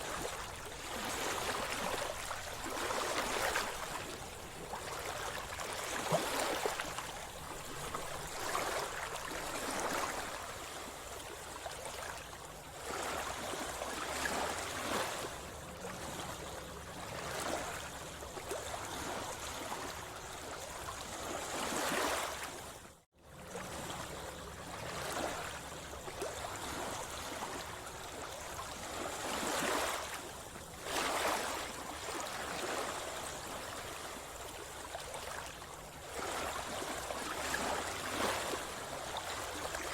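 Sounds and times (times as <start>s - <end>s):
sea water sloshing and splashing: 0.0s - 39.9s.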